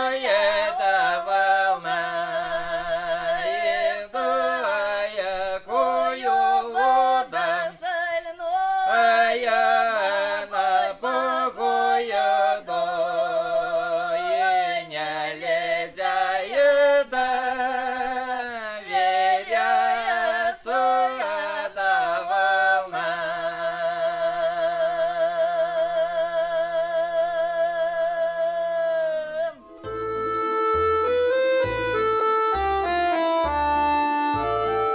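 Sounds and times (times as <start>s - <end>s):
person singing with vibrato: 0.0s - 30.6s.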